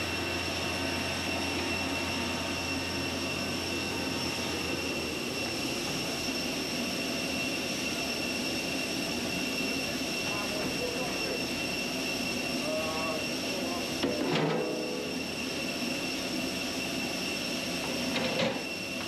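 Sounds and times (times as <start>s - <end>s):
jet aircraft whine: 0.0s - 19.0s.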